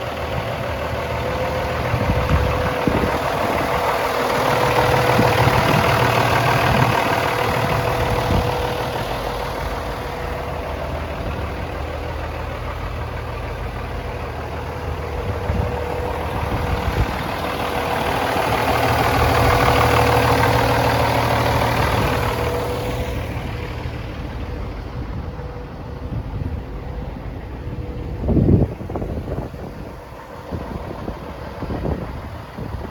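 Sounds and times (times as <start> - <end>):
truck diesel engine idling: 0.0 - 32.9.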